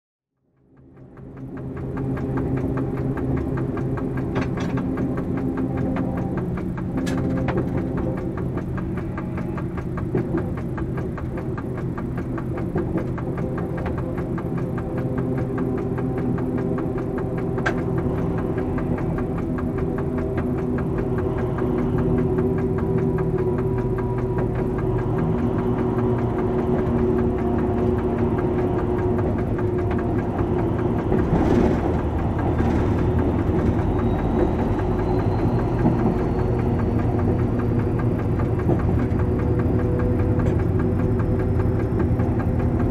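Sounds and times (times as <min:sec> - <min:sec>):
diesel locomotive engine running: 0:00.4 - 0:42.9.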